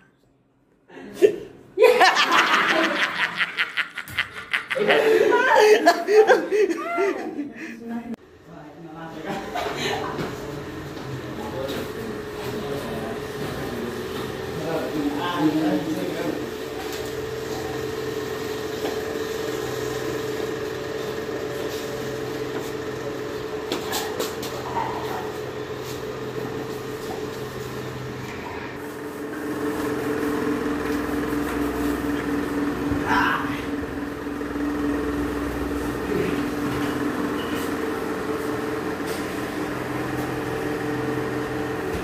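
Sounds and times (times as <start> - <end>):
mechanical hum: 0.0 - 42.0.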